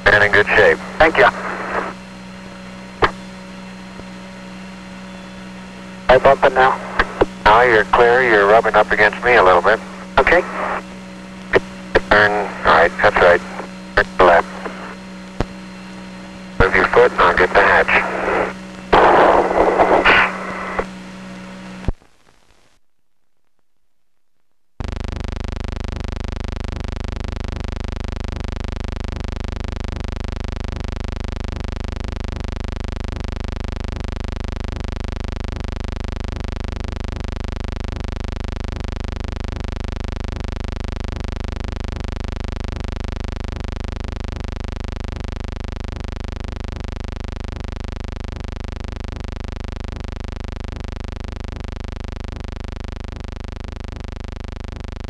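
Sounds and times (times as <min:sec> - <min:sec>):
low buzzing hum: 0:00.0 - 0:55.0.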